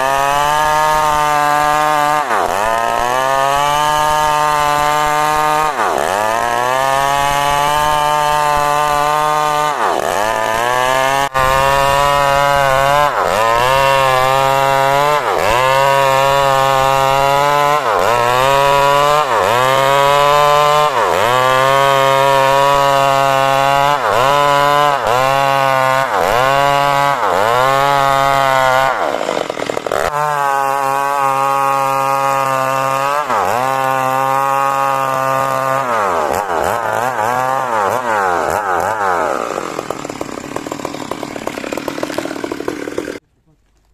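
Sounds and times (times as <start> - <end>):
chainsaw sawing wood: 0.0 - 43.9.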